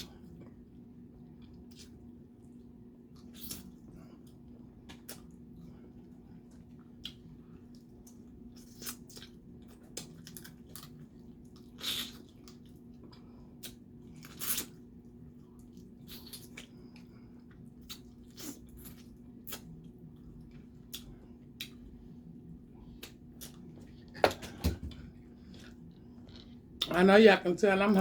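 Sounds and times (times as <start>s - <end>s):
faint steady hum: 0.0s - 28.0s
chewing and sucking: 1.3s - 22.2s, 25.2s - 26.9s.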